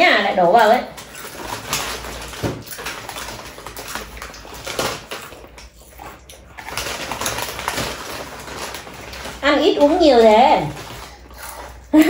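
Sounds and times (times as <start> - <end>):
crinkling foil chip bags: 0.0 - 12.0
chips crunching being eaten: 0.4 - 12.0.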